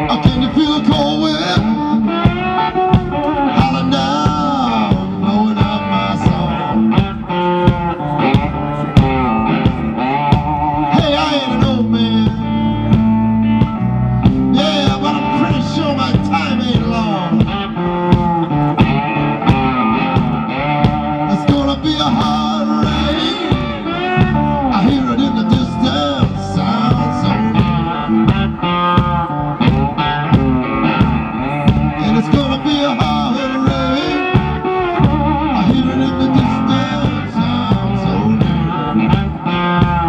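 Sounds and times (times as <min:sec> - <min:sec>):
bass: 0:00.0 - 0:40.0
drums: 0:00.0 - 0:40.0
electric guitar lead with string bends: 0:00.0 - 0:40.0.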